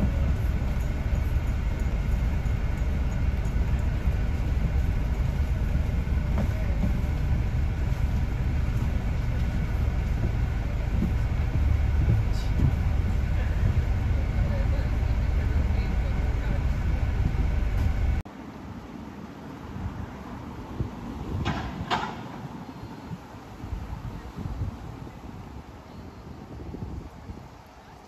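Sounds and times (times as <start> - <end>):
bus engine and tyres rumbling: 0.0 - 28.0.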